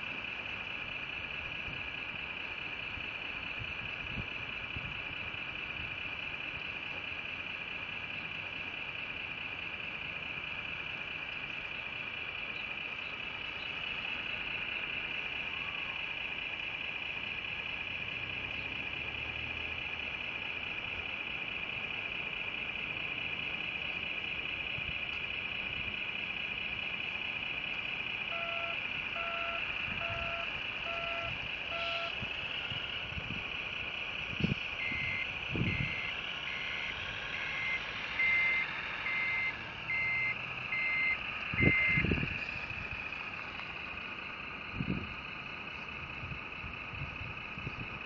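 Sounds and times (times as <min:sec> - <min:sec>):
high-pitched motor whine: 0:00.0 - 0:48.0
low engine-like hum: 0:00.0 - 0:48.0
reversing alarm beeping: 0:00.2 - 0:48.0.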